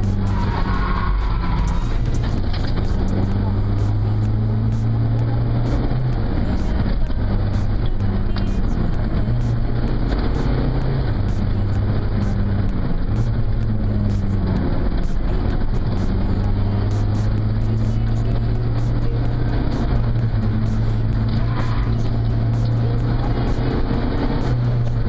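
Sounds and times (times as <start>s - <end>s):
rally car engine shifting gears: 0.0s - 25.0s
road and tyre noise: 0.0s - 25.0s.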